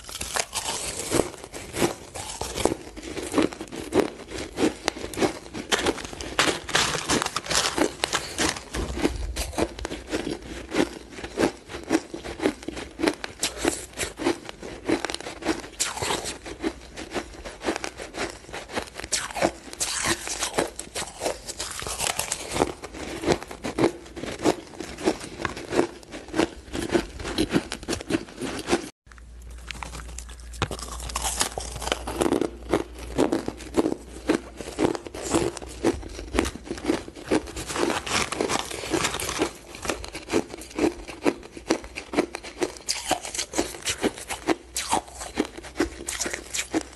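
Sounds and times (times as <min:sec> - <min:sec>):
chewing crunchy ice: 0:00.0 - 0:46.9.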